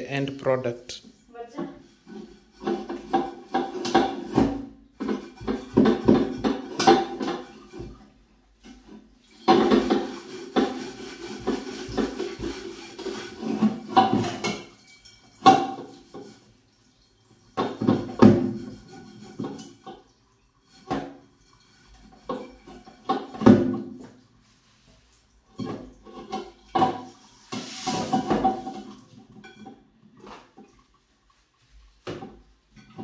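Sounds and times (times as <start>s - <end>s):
sponge scrubbing metal pot: 0.3s - 33.0s
pot clanking in sink: 1.6s - 16.4s, 17.4s - 24.2s, 25.5s - 31.4s, 32.0s - 33.0s
tap water rushing: 1.6s - 33.0s.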